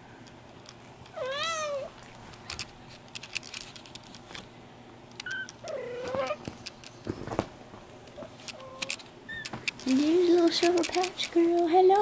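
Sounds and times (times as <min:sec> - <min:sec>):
faint clicks and rustles: 0:00.2 - 0:12.0.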